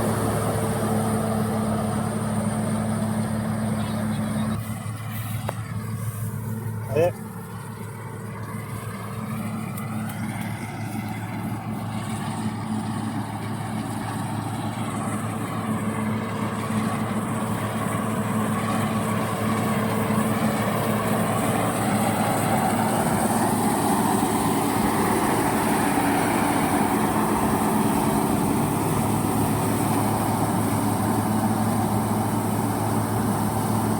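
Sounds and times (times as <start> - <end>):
combine harvester running: 0.0 - 33.9.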